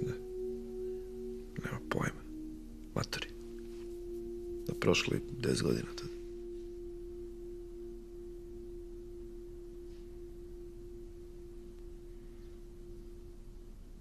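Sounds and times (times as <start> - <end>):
faint low hum: 0.0 - 14.0
steady held drone note: 0.0 - 14.0.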